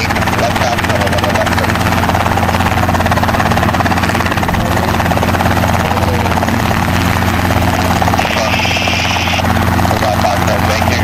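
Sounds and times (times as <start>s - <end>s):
helicopter rotor chop: 0.0s - 11.0s
piston engine drone: 0.0s - 11.0s.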